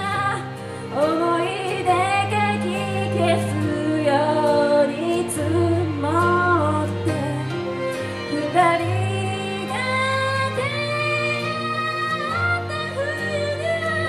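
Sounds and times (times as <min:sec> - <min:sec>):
instrumental accompaniment: 0:00.0 - 0:14.0
woman singing a slow ballad: 0:00.0 - 0:14.0.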